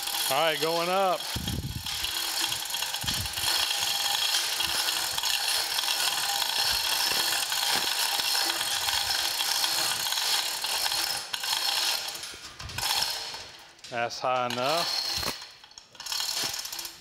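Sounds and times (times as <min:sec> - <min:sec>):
hoist chain rattling: 0:00.0 - 0:17.0
ratchet clicking: 0:00.0 - 0:17.0.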